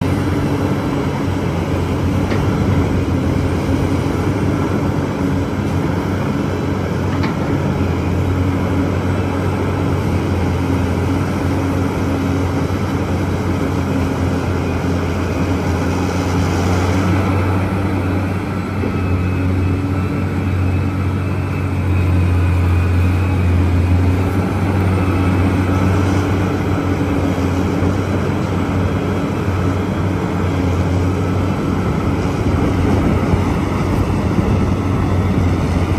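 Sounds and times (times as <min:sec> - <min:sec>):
excavator diesel engine humming: 0:00.0 - 0:35.9.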